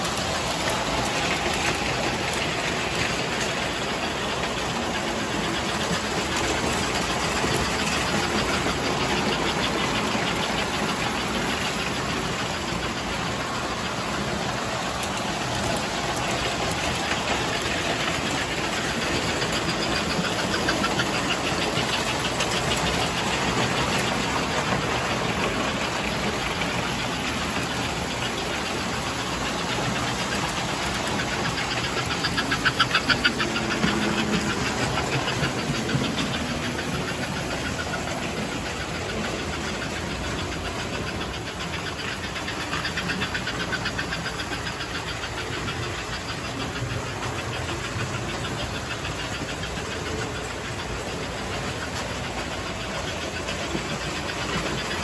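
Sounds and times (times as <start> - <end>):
wheels clicking over rails: 0.0 - 55.0
whirr of toy train motors: 0.0 - 55.0.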